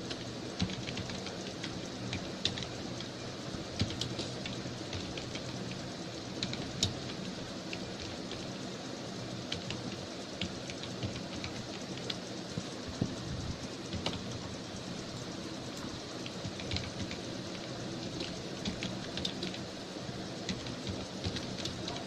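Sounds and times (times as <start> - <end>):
keyboard keys clicking: 0.0 - 3.2, 3.8 - 5.8, 6.4 - 8.5, 9.5 - 19.7, 20.4 - 22.0
background hiss: 0.0 - 22.0.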